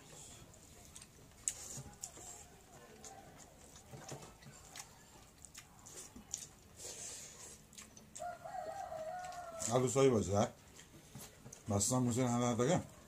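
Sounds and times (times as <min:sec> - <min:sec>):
chewing and lip-smacking: 0:00.0 - 0:09.8, 0:10.6 - 0:11.7.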